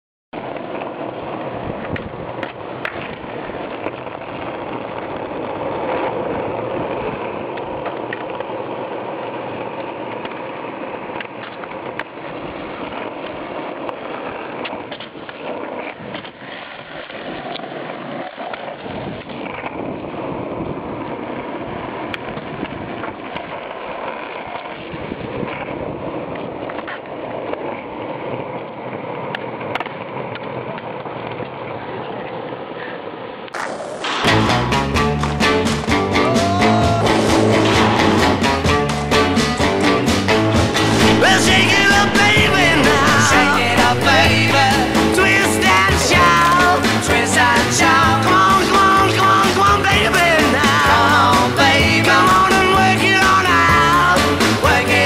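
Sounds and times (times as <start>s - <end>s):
skateboard clacking on ground: 0.4s - 55.0s
skateboard wheels rolling on asphalt: 0.4s - 55.0s.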